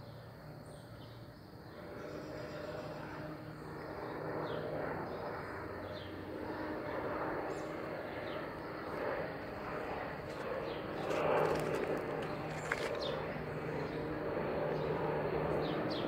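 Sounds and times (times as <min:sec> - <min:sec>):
airplane engine droning: 0:00.0 - 0:16.0.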